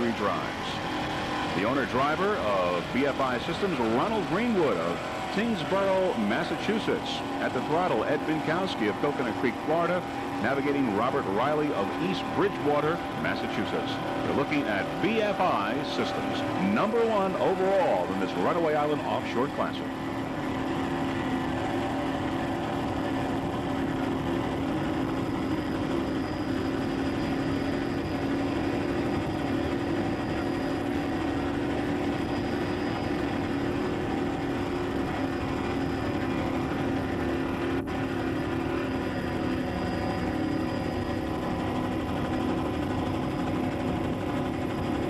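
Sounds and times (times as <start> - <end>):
steady engine drone: 0.0 - 45.0.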